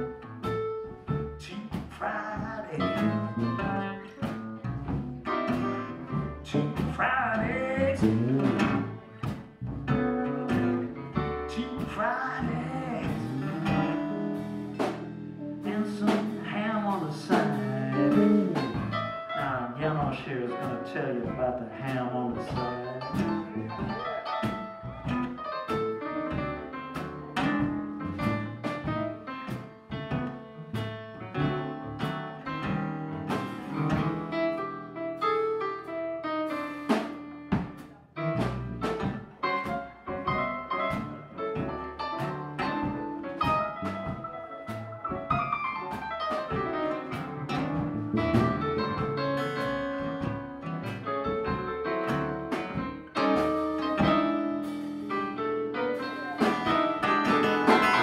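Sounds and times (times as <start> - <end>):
blues keyboard solo: 0.0 - 58.0
drum kit: 0.0 - 58.0
electric bass: 0.0 - 58.0.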